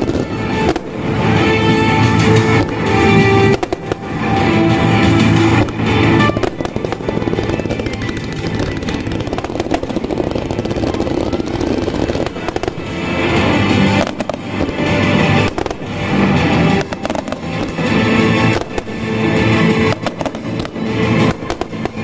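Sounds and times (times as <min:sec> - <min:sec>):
fireworks bursting and crackling: 0:00.0 - 0:22.0
music playing: 0:00.0 - 0:22.0.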